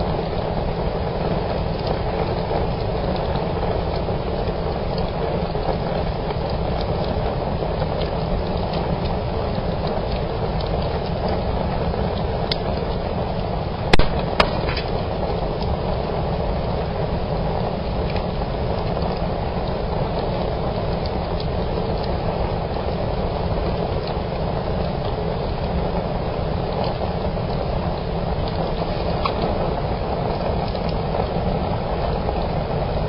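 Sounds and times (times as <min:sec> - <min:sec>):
fire flames rushing: 0:00.0 - 0:33.0
wood fire snapping and crackling: 0:00.0 - 0:33.0.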